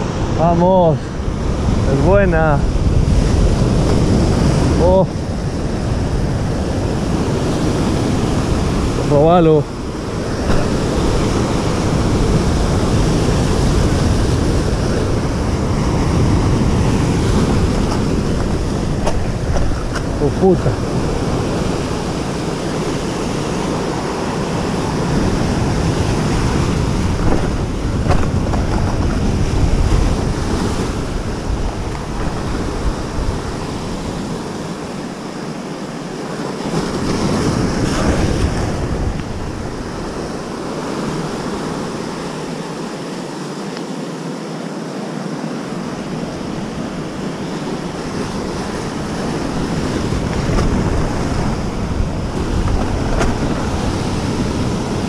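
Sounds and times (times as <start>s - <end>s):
wind buffeting microphone: 0.0s - 43.4s, 45.3s - 55.0s
surf breaking on rocks: 0.0s - 44.2s, 45.1s - 55.0s.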